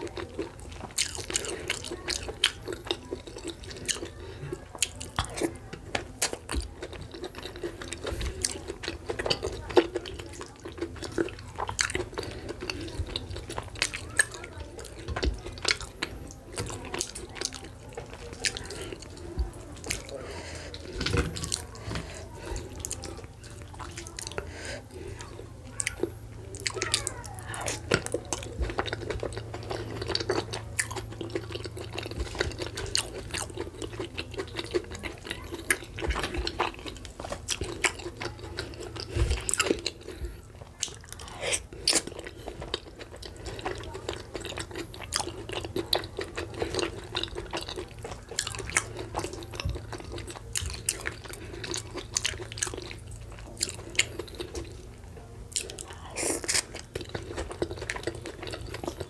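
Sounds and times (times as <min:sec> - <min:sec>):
fingers squishing food: 0:00.0 - 0:59.0
wet chewing and mouth clicks: 0:00.0 - 0:59.0.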